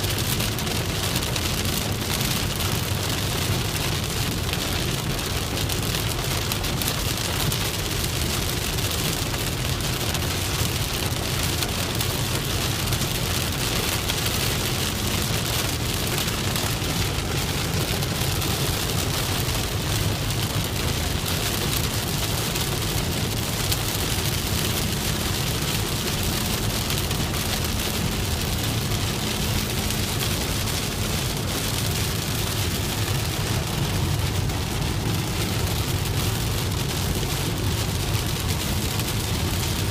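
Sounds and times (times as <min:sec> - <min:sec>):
car rumbling on road: 0:00.0 - 0:39.9
rain on a car: 0:00.0 - 0:39.9.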